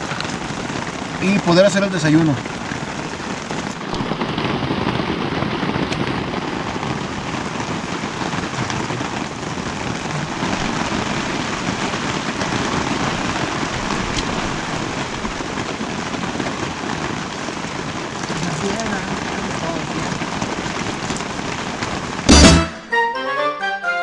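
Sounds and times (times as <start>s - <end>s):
rain on a tarp: 0.0s - 22.3s.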